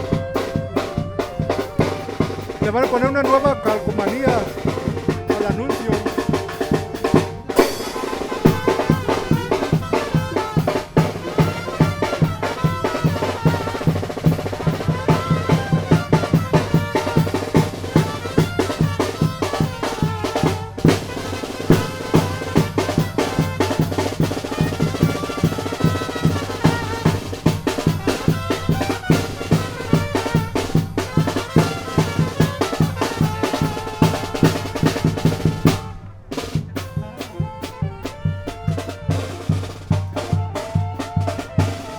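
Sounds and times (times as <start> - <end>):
bass drum and snare beat: 0.0 - 41.9
brass and saxophones melody: 0.0 - 41.9
brass band playing: 0.0 - 41.9.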